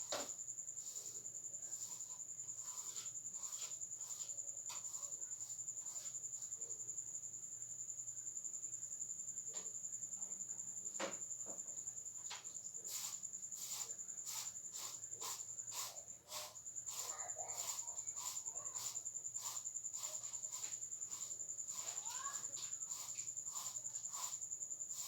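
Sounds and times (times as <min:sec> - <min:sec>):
cricket chirping trill: 0:00.0 - 0:25.0.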